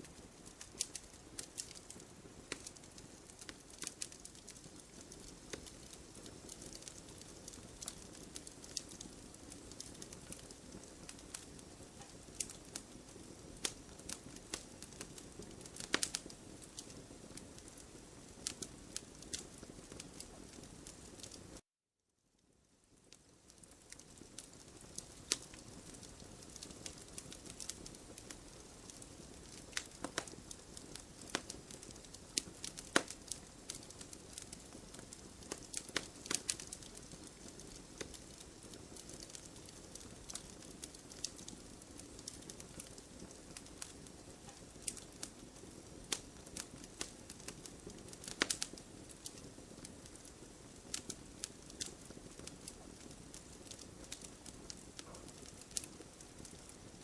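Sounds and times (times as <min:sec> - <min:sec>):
fire pops and snaps: 0:00.0 - 0:21.6, 0:23.0 - 0:57.0
wood fire crackling: 0:00.0 - 0:21.6, 0:22.4 - 0:57.0.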